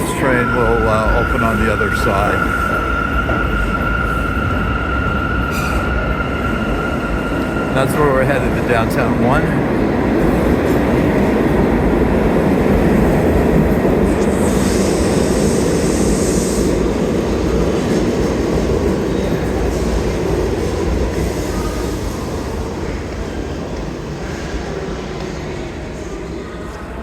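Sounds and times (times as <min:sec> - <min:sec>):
subway train rumbling: 0:00.0 - 0:27.0.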